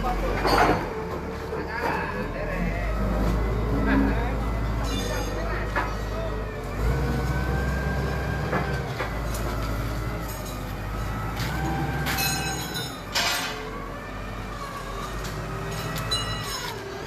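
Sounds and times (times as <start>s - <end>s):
forklift engine rumbling: 0.0s - 17.0s.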